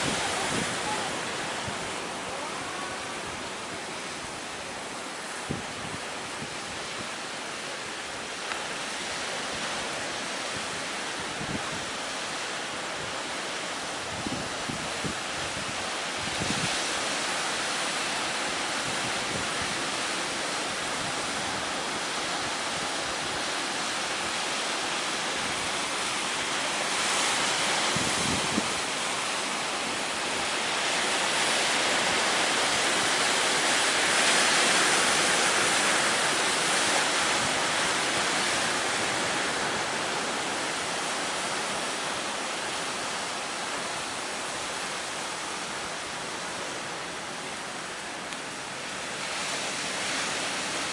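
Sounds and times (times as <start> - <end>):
strong wind: 0.0 - 50.9.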